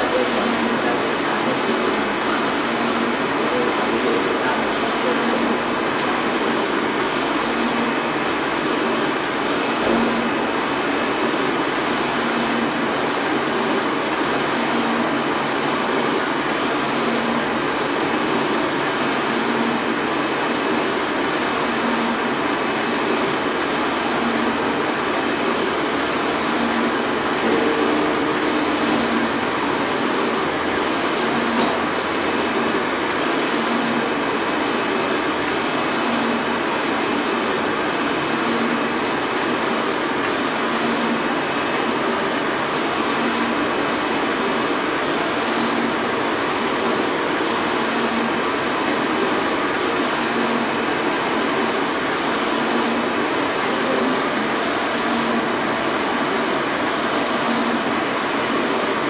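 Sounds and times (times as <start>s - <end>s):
printer whirring and hissing: 0.0s - 59.0s.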